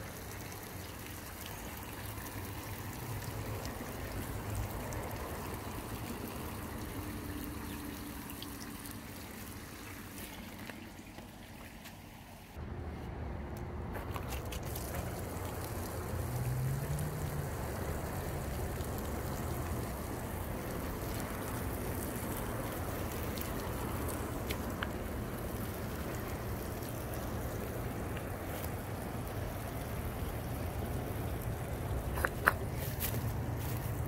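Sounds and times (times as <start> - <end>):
water sprinkling onto plants: 0.0 - 12.6, 14.0 - 34.0.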